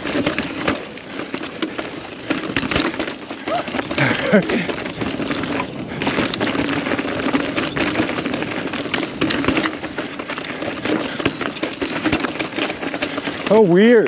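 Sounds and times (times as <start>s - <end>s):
mountain bike rattling over rocks: 0.0s - 14.0s.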